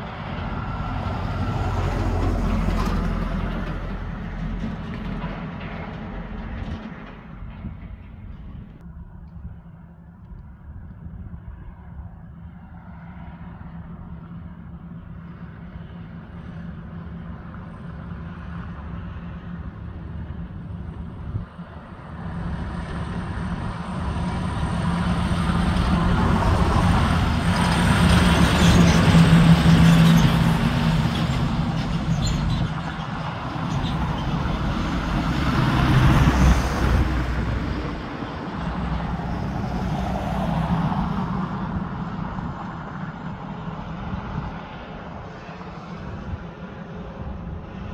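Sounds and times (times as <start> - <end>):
diesel trucks passing: 0.0 - 47.9.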